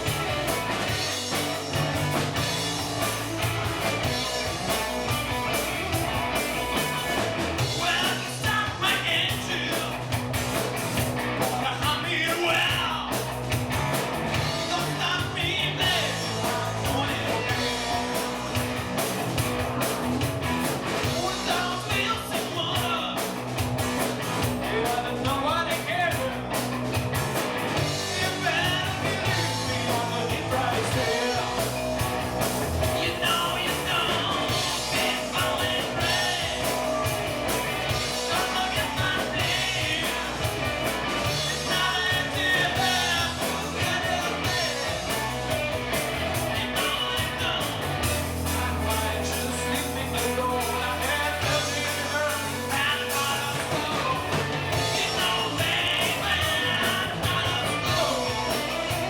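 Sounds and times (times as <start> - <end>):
rock and roll band with singer: 0.0 - 59.0.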